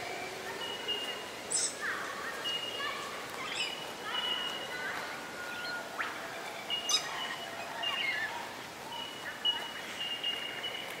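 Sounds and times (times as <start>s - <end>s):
birds whistling and chirping: 0.1s - 11.0s.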